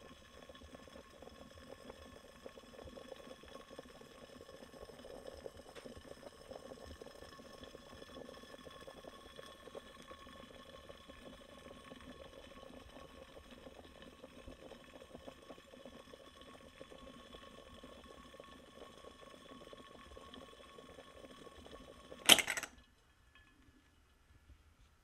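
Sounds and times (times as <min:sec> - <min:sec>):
siphon coffee maker gurgling: 0:00.0 - 0:24.1.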